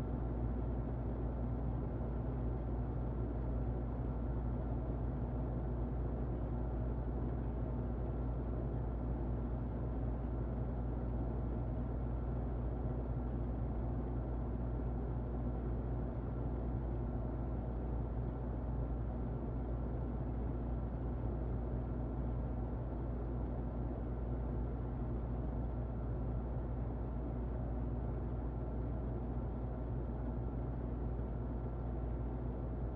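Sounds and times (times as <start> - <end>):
faint steady hum: 0.0 - 32.9
muffled electric fan running: 0.0 - 32.9.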